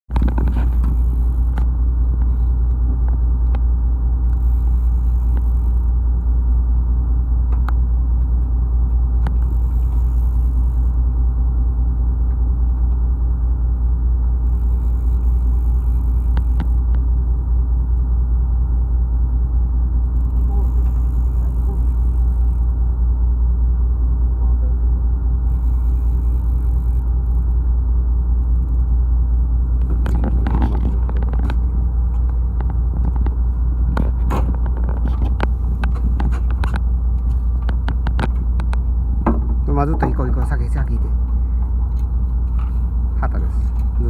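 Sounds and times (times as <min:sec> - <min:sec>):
boat engine rumbling: 0:00.0 - 0:44.0.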